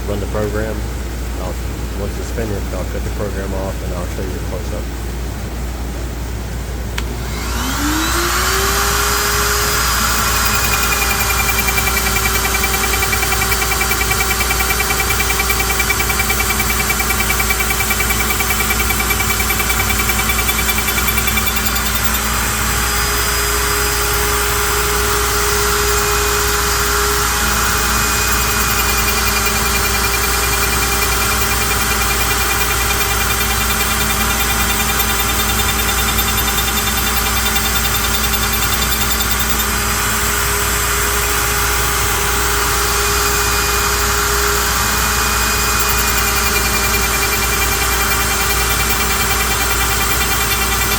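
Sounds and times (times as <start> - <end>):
dust collection vacuum running: 6.9 - 50.9
router spindle whine: 7.0 - 50.9.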